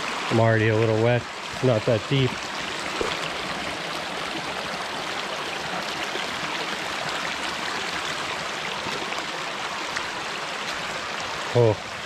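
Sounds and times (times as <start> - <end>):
creek rippling over stones: 0.0 - 12.0.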